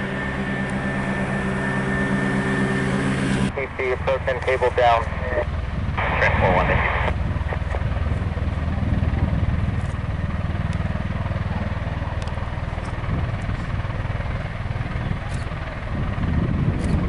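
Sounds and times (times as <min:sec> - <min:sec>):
aircraft rotors throbbing: 0:00.0 - 0:17.0.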